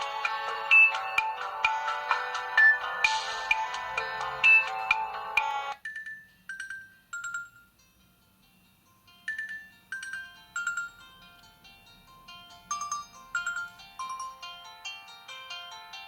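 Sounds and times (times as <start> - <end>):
phone ringtone melody: 0.0 - 7.8, 9.2 - 16.0.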